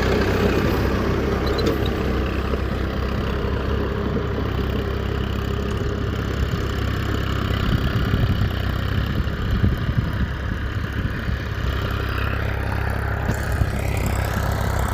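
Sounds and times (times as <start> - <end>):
small engine idling: 0.0 - 14.9.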